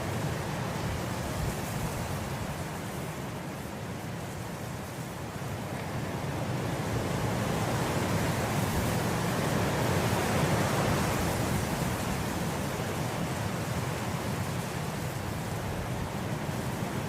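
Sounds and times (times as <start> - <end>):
wind blowing through grass: 0.0 - 17.0.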